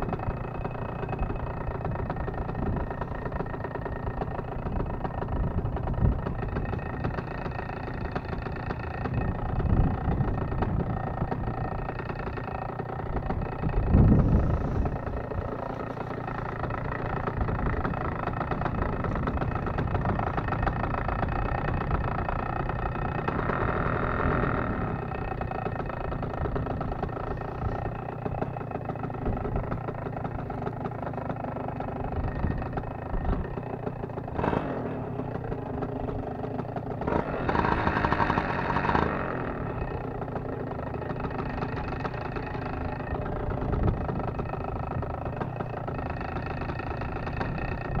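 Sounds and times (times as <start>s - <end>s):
low rumbles: 0.0s - 38.4s, 39.0s - 48.0s
paramotor engine idling: 0.0s - 48.0s.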